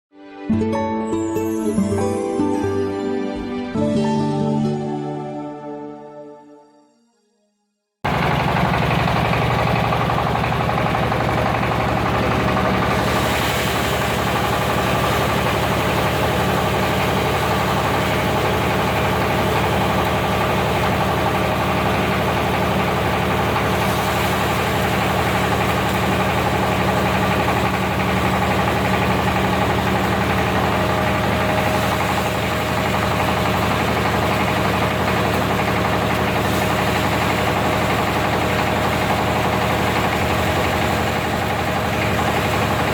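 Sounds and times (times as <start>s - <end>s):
grinding machine humming: 8.1s - 42.9s.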